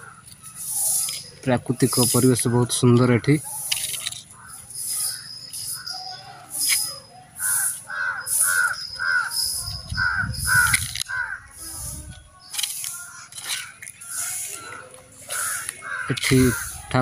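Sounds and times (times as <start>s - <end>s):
crow cawing: 0.0s - 1.2s, 1.9s - 11.8s, 12.8s - 17.0s.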